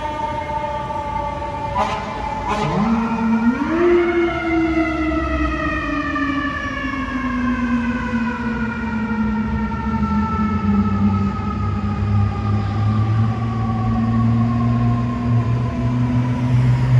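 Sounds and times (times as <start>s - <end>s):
deep siren wailing: 0.0s - 16.9s
high siren sliding down: 0.0s - 16.9s.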